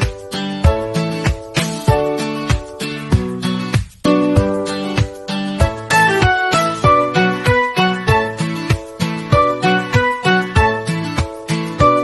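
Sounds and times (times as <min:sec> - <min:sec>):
upbeat guitar music with beat: 0:00.0 - 0:12.0.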